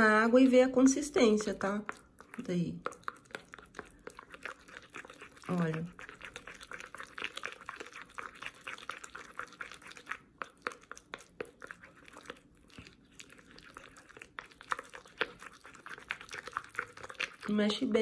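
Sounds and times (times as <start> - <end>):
wet squelching of paper: 1.1 - 18.0.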